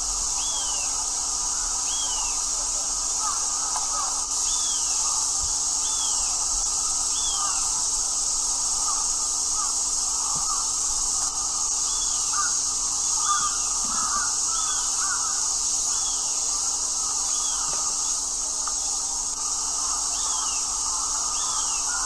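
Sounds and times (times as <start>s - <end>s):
steady high hiss: 0.0s - 22.0s
lower cawing calls: 0.3s - 22.0s.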